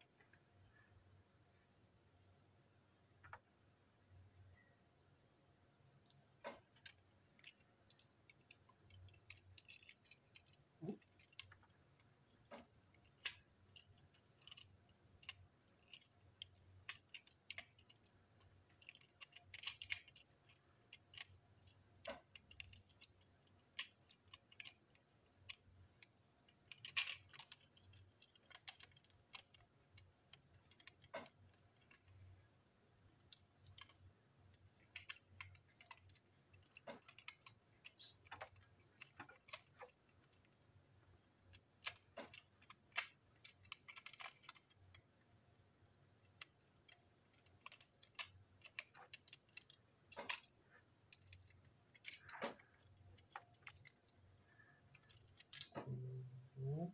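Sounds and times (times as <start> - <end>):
plastic toy parts clicking: 6.0 - 32.4, 33.0 - 56.9.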